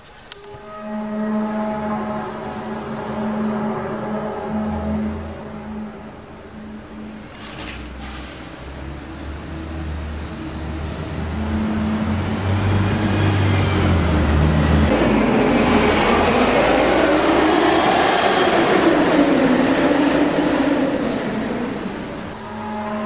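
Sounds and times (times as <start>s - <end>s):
train passing: 0.4s - 23.0s
rushing rumble with squealing tones: 2.0s - 23.0s.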